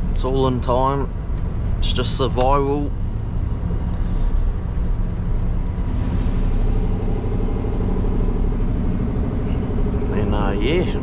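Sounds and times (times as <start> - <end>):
diesel engine rumble: 0.0 - 11.0
road noise: 0.0 - 11.0.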